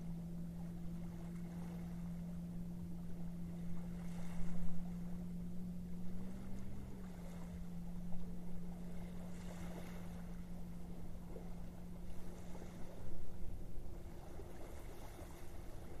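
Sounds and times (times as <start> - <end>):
boat motor humming: 0.0 - 16.0
low background rumble: 0.0 - 16.0.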